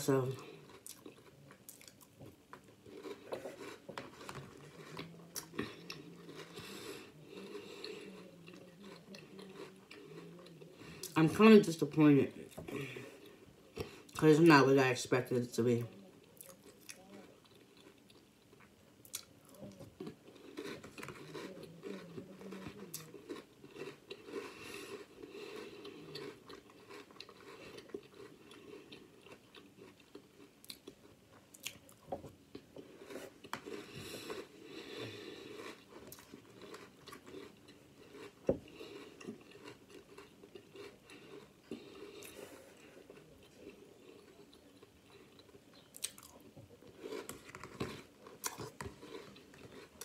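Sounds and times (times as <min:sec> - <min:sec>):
person chewing crunchy cereal: 0:00.0 - 0:11.4, 0:16.3 - 0:50.0.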